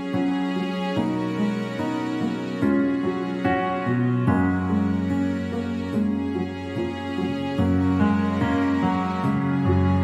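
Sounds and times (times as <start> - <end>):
background music with held chords: 0.0 - 10.0.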